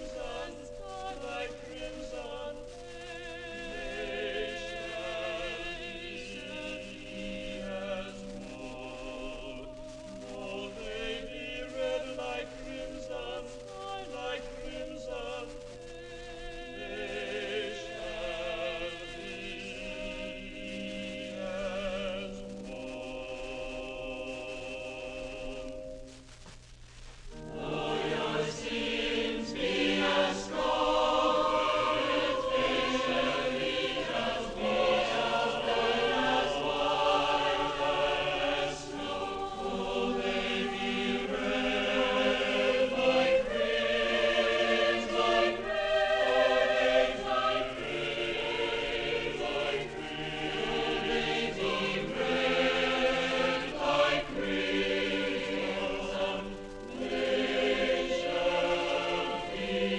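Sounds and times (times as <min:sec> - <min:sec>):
choir singing in harmony: 0:00.0 - 0:26.0, 0:27.3 - 0:59.9.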